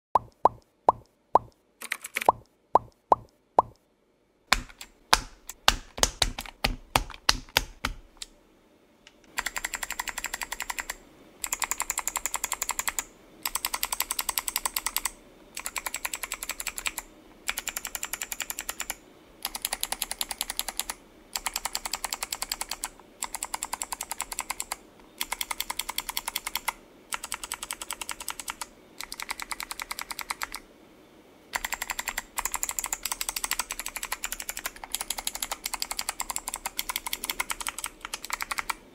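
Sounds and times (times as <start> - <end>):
clicky keyboard typing: 0.2 - 3.8, 4.5 - 8.3, 9.1 - 30.6, 31.6 - 38.8.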